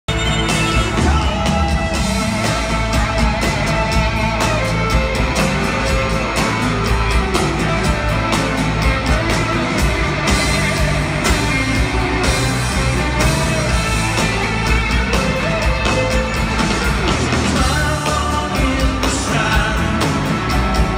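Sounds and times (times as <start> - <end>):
live rock band playing: 0.1 - 20.9.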